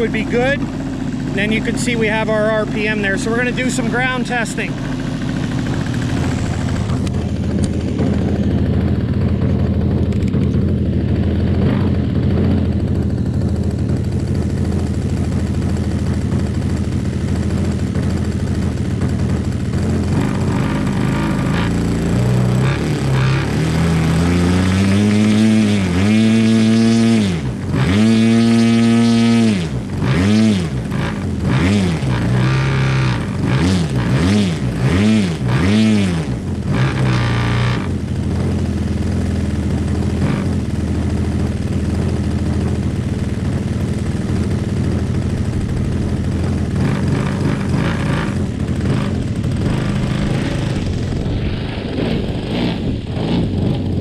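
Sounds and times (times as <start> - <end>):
model plane engine revving: 0.0 - 8.6, 16.1 - 41.1, 44.0 - 54.0.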